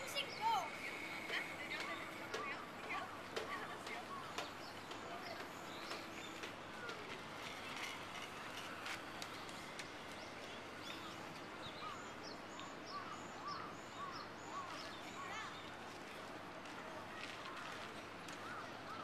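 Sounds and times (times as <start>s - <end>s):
birds chirping: 0.0s - 19.0s
faint steady background noise: 0.0s - 19.0s.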